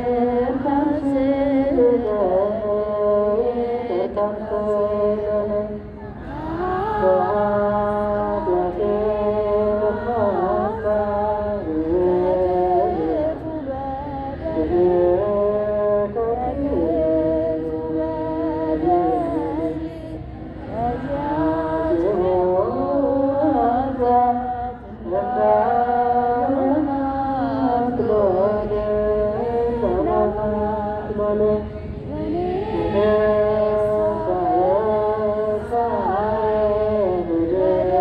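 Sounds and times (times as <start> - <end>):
voices singing a hymn: 0.0 - 38.0.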